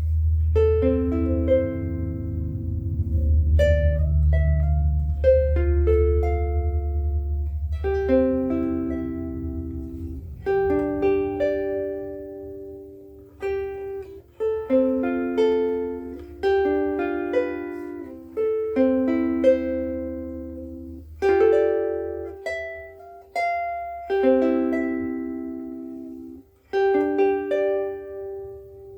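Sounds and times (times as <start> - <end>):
fingerpicked ukulele: 0.0 - 28.9.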